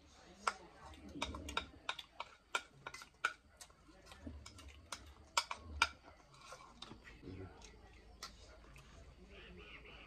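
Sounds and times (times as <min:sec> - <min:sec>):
metal spoons clinking against bowls: 0:00.3 - 0:08.8.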